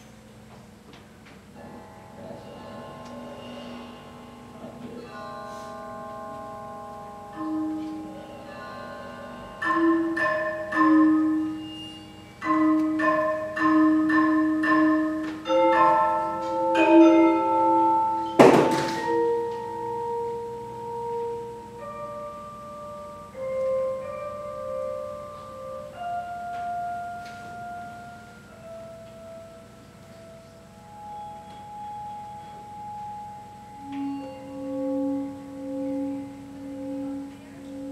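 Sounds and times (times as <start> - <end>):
mallet percussion chords ringing: 1.6 - 37.9.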